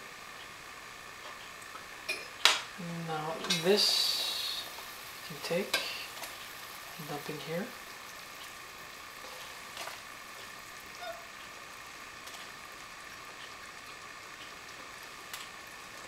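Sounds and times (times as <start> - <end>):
pot boiling hiss: 0.0 - 16.0.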